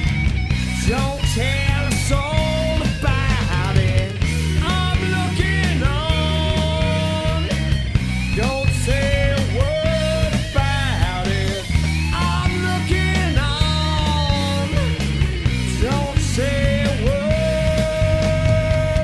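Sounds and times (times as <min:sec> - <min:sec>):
rock band playing: 0:00.0 - 0:19.0
sliding lead melody: 0:00.0 - 0:19.0.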